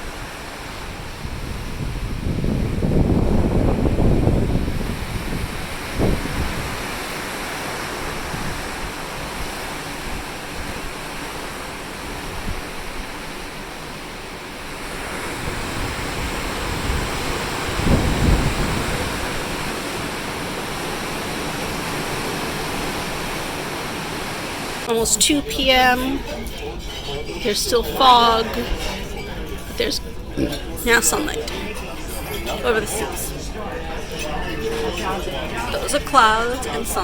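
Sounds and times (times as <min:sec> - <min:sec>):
wind and waves: 0:00.0 - 0:37.0
wind buffeting microphone: 0:00.0 - 0:37.0.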